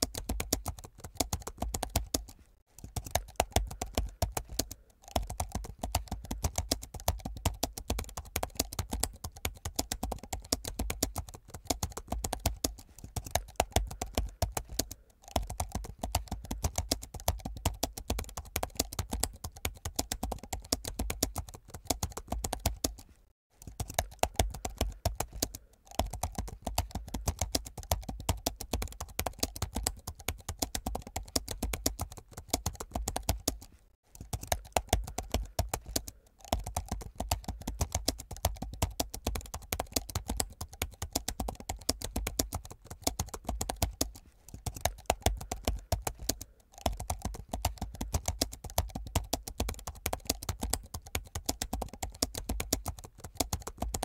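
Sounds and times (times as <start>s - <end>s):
fast typing on laptop keyboard: 0.0s - 54.0s.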